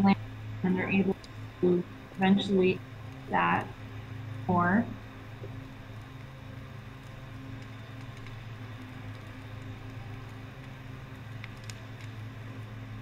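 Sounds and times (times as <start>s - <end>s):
faint fire crackles: 0.0s - 13.0s.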